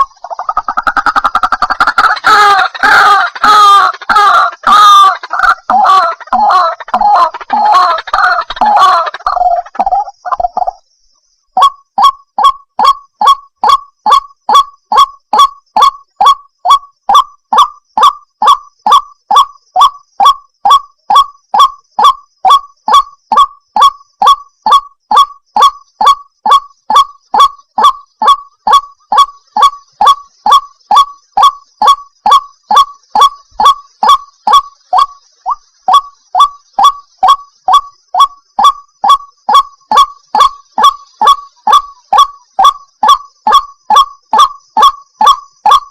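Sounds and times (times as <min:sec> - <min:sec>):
waterhen calling: 0:00.0 - 0:10.8, 0:11.6 - 0:45.9.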